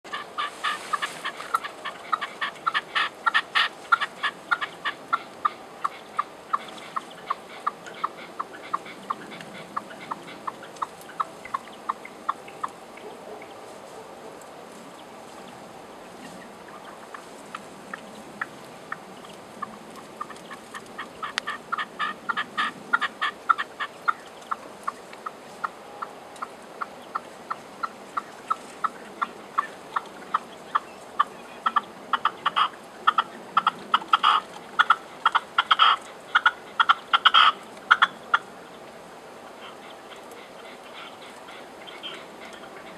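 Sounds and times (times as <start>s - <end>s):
partridge chuck calls: 0.1s - 13.6s, 16.0s - 38.8s, 39.4s - 42.9s.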